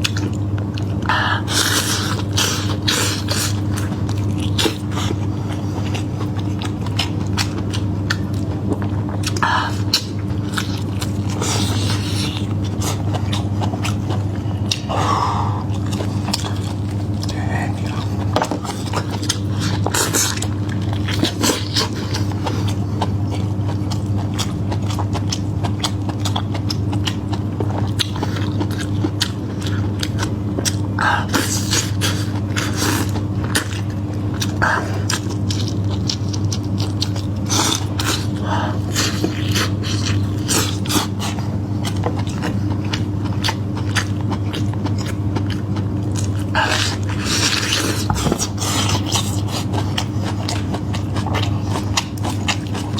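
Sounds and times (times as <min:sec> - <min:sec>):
biting and chewing meat: 0:00.0 - 0:52.9
steady low hum: 0:00.0 - 0:52.9.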